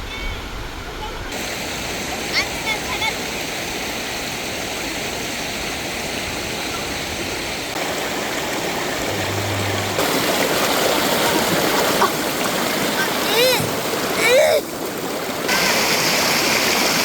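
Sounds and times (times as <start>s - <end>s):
stream flowing over rocks: 1.4s - 17.0s.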